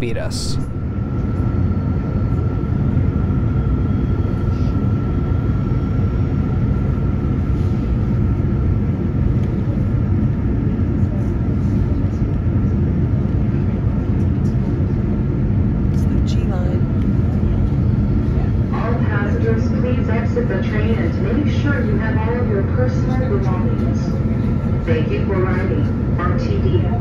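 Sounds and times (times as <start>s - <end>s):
faint steady whine: 0.0s - 27.0s
train low rumble: 0.0s - 27.0s.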